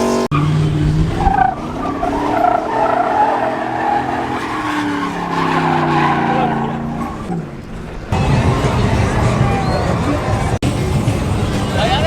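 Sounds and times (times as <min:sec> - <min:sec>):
tires squealing on pavement: 0:00.0 - 0:07.6, 0:08.2 - 0:10.6
truck engine revving: 0:00.0 - 0:12.0.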